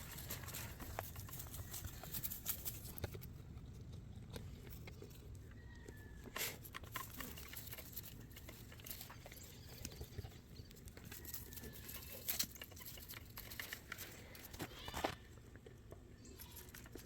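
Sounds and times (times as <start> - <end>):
goat crunching hay: 0.0 - 5.4, 6.4 - 17.0.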